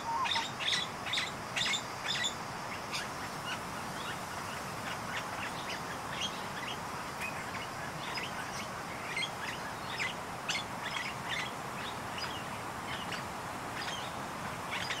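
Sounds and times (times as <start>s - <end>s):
birds chirping: 0.0s - 15.0s
outdoor background hiss: 0.0s - 15.0s.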